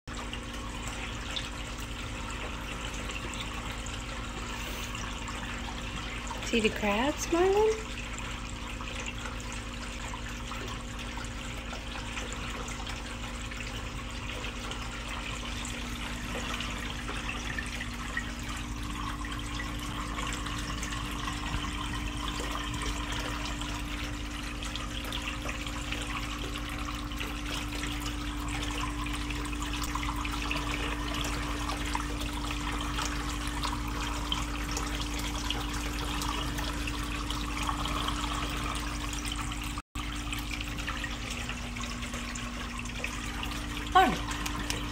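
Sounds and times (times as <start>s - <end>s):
water trickling: 0.1s - 44.9s.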